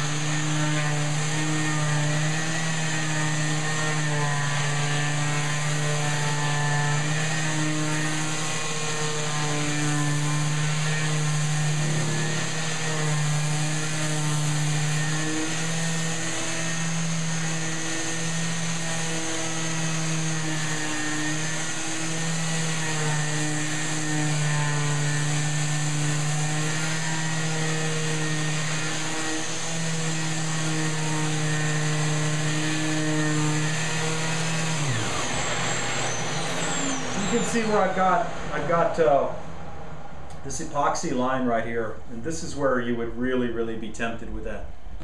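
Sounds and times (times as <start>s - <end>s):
dust extractor hissing: 0.0s - 39.5s
orbital sander humming: 0.0s - 39.6s.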